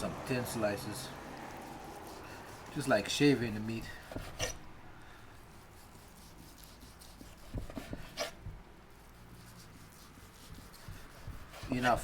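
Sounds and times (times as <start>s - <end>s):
knife slicing meat on board: 1.0s - 3.0s, 3.6s - 4.6s, 5.4s - 12.0s.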